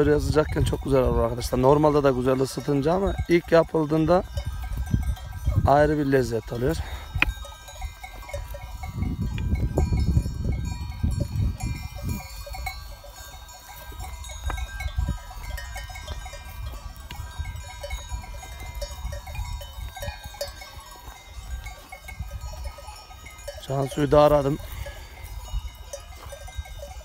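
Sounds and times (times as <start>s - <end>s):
sheep bells clinking: 0.0s - 27.0s.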